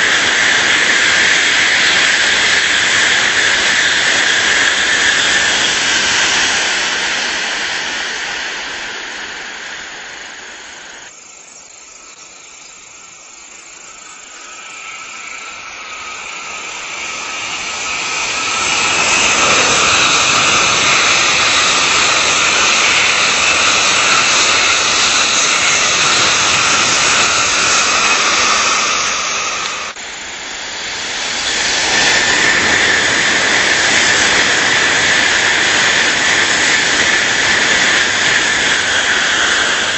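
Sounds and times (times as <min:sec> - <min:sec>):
bullet trains passing: 0:00.0 - 0:39.9.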